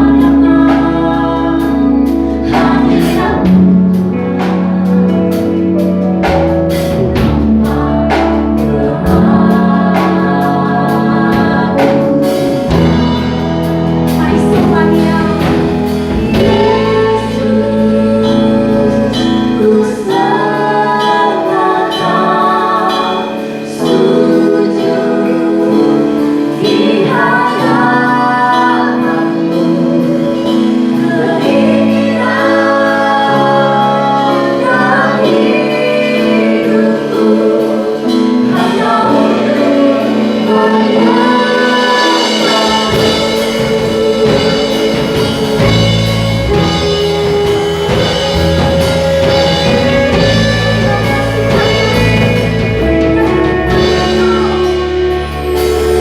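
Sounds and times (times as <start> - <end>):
deep bass: 0.0 - 56.0
group singing worship song: 0.0 - 56.0
held keyboard chords: 0.0 - 56.0.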